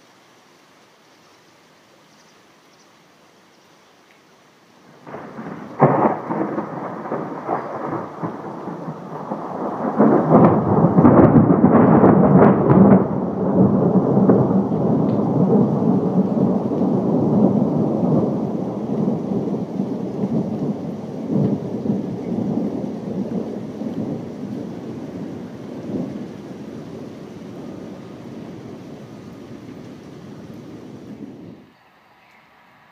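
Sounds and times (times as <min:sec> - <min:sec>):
thunder clap and rolling rumble: 0:05.0 - 0:31.6.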